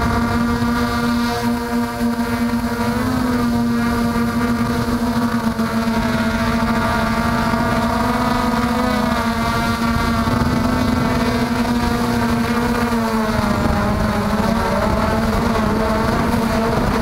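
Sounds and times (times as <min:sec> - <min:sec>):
drone motors humming: 0:00.0 - 0:17.0
wind rumble: 0:02.6 - 0:17.0.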